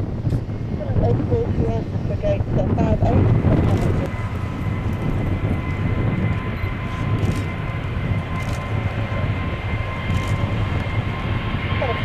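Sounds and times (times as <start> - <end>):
jet engine whine: 0.0 - 12.0
jet engines deep rumble: 0.0 - 12.0.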